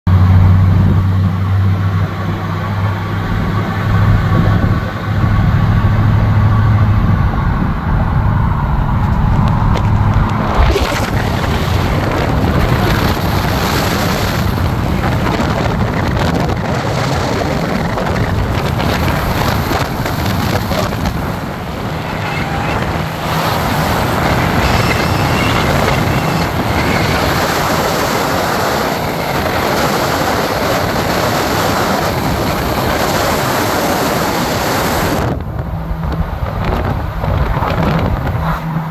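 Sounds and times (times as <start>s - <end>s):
engine and road drone: 0.1s - 38.9s
rush of wind noise: 0.1s - 38.9s.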